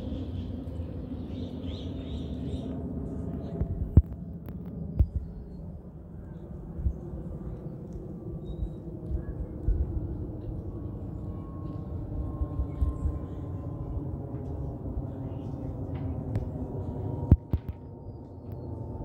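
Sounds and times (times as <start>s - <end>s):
jet engine noise overhead: 0.0s - 19.0s
jet engine whine: 0.0s - 19.0s.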